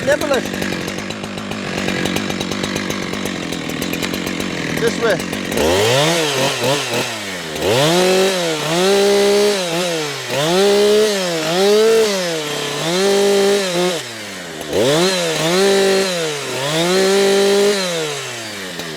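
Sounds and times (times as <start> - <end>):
chainsaw revving: 0.0 - 18.9.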